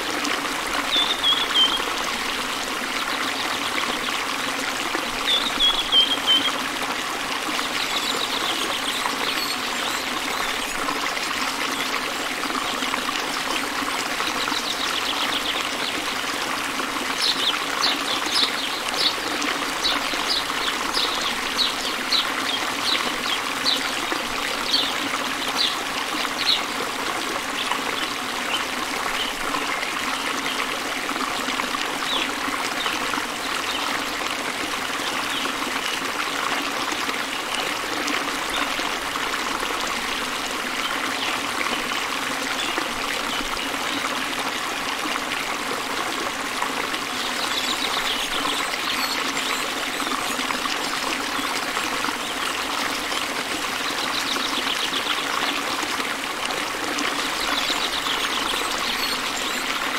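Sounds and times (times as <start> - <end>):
stream trickling: 0.0 - 59.9.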